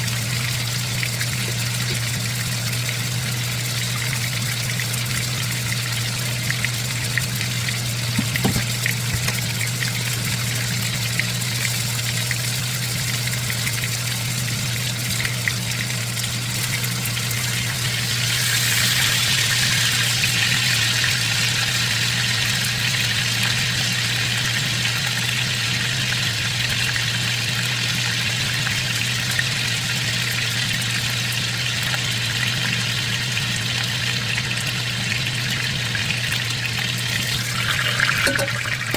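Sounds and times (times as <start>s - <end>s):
chicken sizzling in oil: 0.0s - 38.9s.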